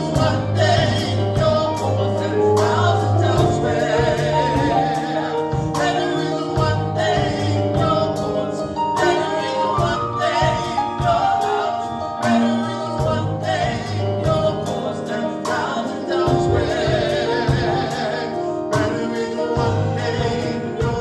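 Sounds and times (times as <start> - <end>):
gospel band playing: 0.0 - 21.0.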